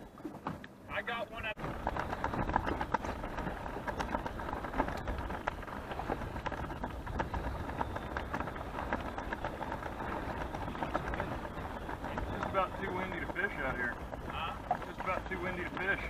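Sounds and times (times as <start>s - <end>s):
water lapping against boat hull: 0.0s - 16.0s
small crackles: 1.5s - 16.0s
wind noise on microphone: 1.6s - 16.0s.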